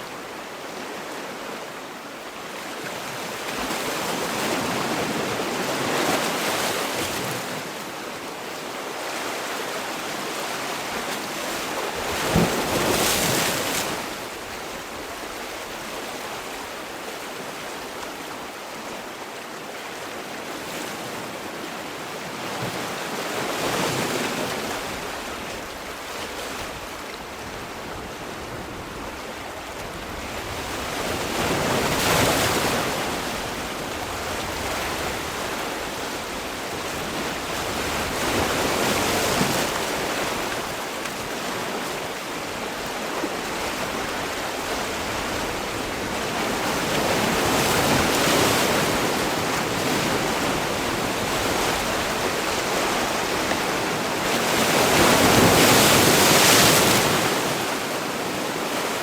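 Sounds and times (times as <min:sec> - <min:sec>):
sea waves washing on shore: 0:00.0 - 0:59.0.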